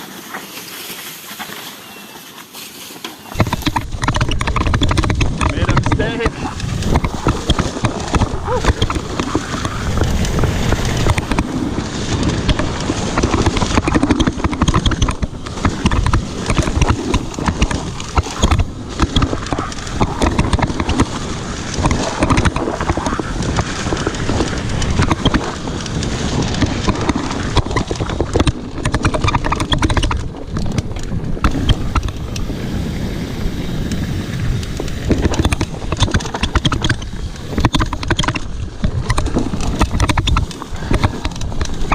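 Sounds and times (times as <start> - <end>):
bike tyres crunching over dirt: 0.0 - 41.9
bike frame and chain rattling: 3.1 - 41.9
wind buffeting microphone: 3.3 - 41.9.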